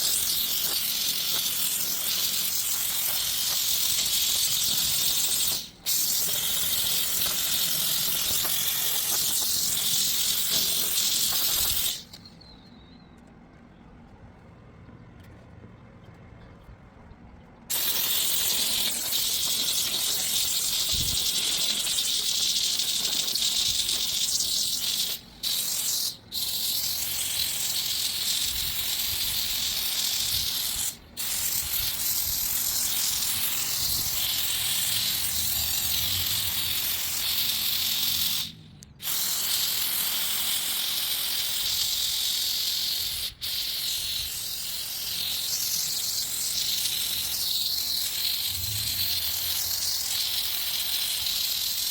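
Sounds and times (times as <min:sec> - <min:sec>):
steam cleaner hissing: 0:00.0 - 0:12.2, 0:17.7 - 0:51.9.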